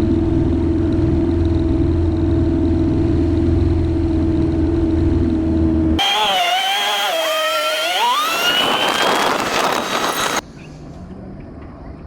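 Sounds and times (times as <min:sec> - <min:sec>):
engine running steadily: 0:00.0 - 0:11.1.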